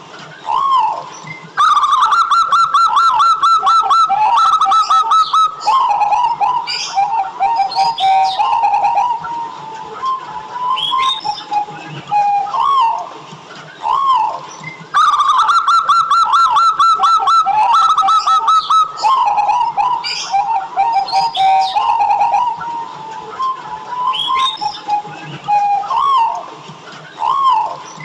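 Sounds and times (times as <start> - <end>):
doves cooing: 0.0 - 28.0
small birds chirping: 0.2 - 28.0.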